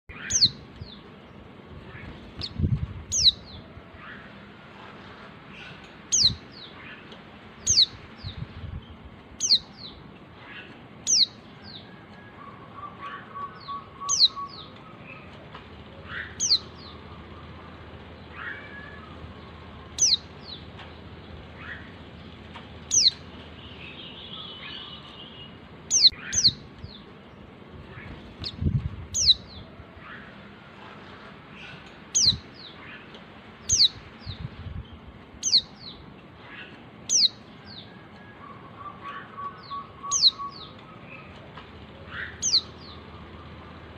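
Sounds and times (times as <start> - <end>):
faint bird chirps and trill: 0.1 - 1.1, 5.5 - 15.4, 16.0 - 20.7, 21.4 - 30.4, 31.5 - 41.4, 42.0 - 43.9.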